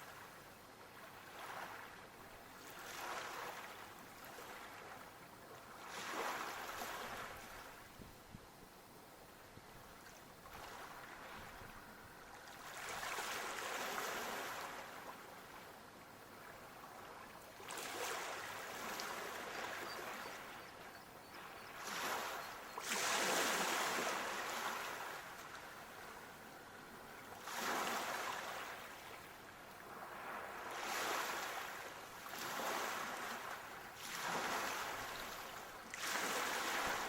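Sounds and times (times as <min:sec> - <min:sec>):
sea waves breaking: 0:01.0 - 0:02.0, 0:02.6 - 0:05.0, 0:05.7 - 0:07.8, 0:10.4 - 0:15.6, 0:16.3 - 0:37.0.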